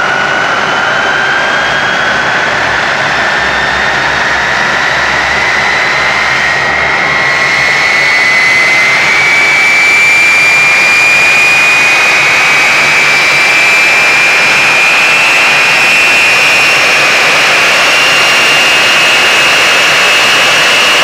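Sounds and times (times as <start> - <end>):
high whine rising in pitch: 0.0 - 21.0
jet engine roaring: 0.0 - 21.0.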